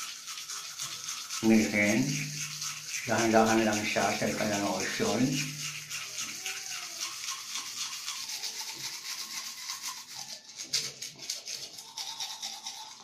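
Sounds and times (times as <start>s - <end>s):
toothbrush scrubbing teeth: 0.0s - 13.0s.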